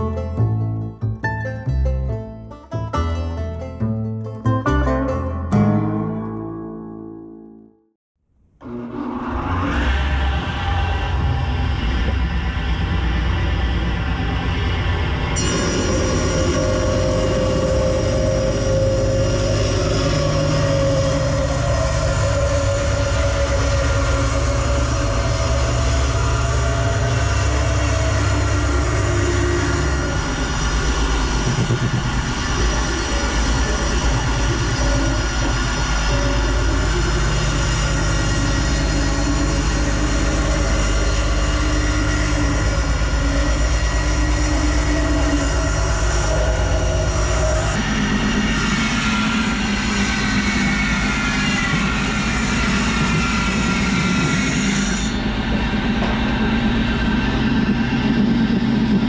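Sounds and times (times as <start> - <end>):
woodworking power machine running: 8.6 - 59.0.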